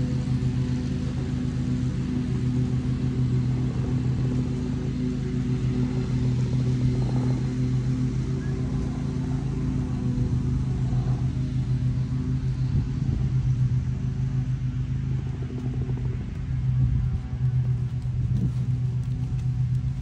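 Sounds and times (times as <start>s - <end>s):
low engine-like drone: 0.0s - 20.0s.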